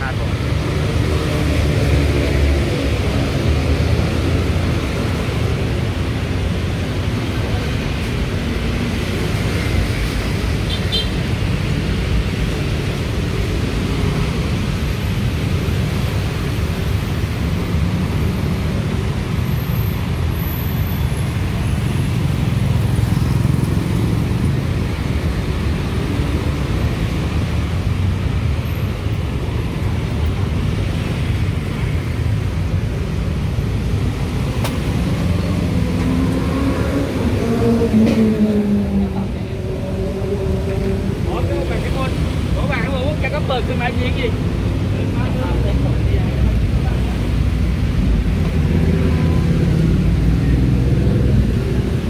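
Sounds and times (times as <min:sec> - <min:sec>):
cars passing: 0:00.0 - 0:52.0
low traffic rumble: 0:00.0 - 0:52.0.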